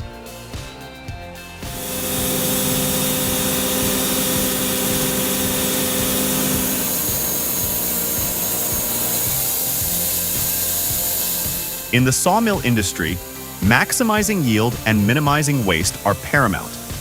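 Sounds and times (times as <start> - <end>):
motor hum: 1.7 - 17.0
power saw cutting wood: 1.7 - 17.0.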